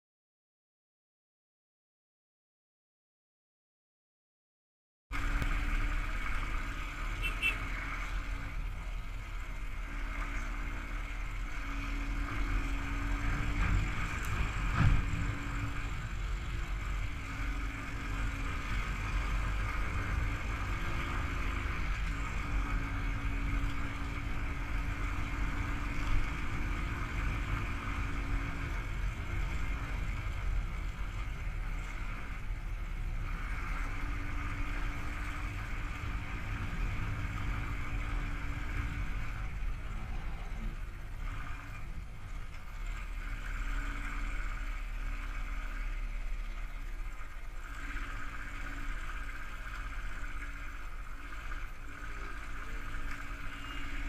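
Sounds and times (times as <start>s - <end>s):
wind rumble on microphone: 5.2s - 54.0s.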